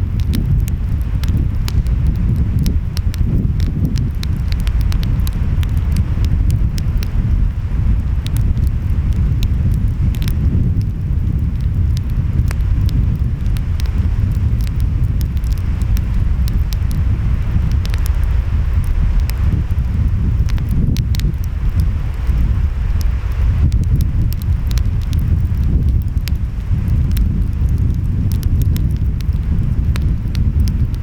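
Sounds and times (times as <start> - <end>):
wind: 0.0 - 31.0
wood fire crackling: 0.0 - 31.0.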